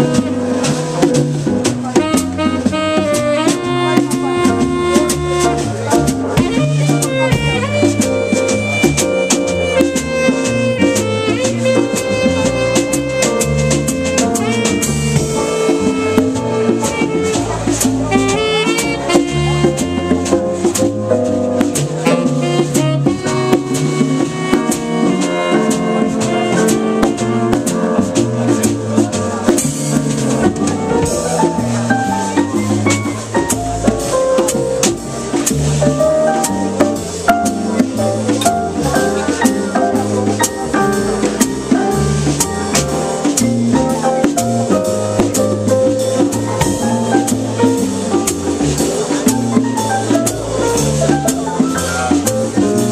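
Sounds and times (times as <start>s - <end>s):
drum kit with cymbals: 0.0s - 52.9s
pitched instruments playing melody: 0.0s - 52.9s
walking bass line: 0.0s - 52.9s.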